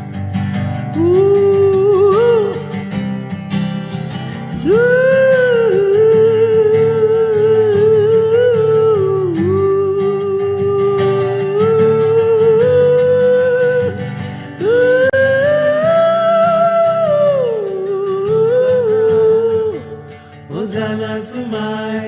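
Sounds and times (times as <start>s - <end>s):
strummed acoustic guitar: 0.0s - 22.0s
wordless singing: 0.8s - 3.0s, 4.3s - 22.0s.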